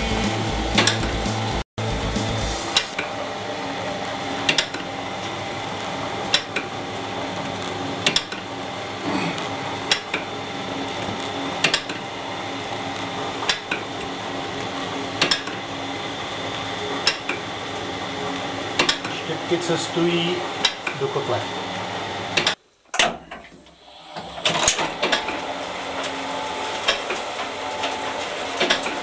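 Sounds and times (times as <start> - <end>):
screw conveyor running: 0.0 - 22.6, 23.7 - 29.0.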